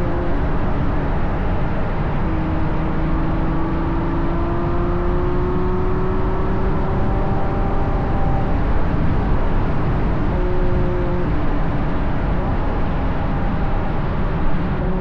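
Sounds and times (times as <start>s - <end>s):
car engine accelerating: 0.0s - 15.0s
wind and road noise: 0.0s - 15.0s.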